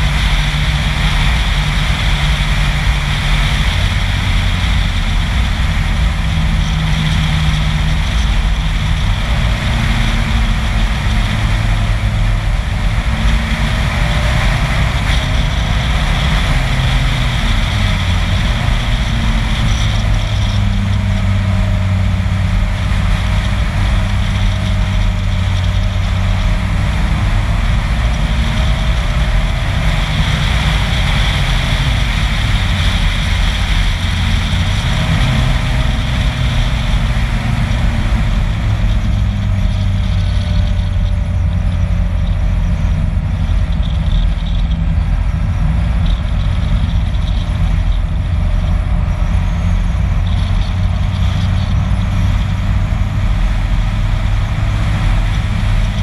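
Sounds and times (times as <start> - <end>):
vehicle engine running: 0.0 - 56.0
wind and road noise: 0.0 - 56.0.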